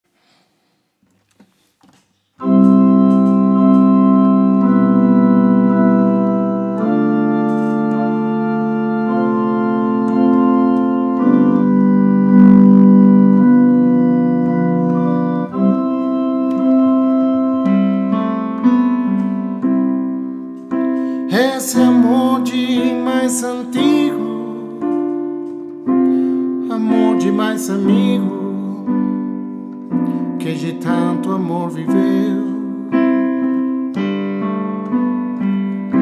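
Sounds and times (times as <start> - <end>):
electronic keyboard held chords: 2.3 - 36.0.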